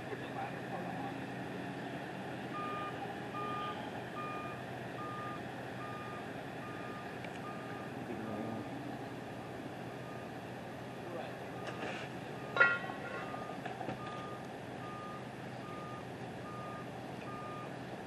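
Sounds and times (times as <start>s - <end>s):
traffic and engine noise: 0.0s - 18.0s
truck reversing alarm beeping: 1.9s - 17.8s.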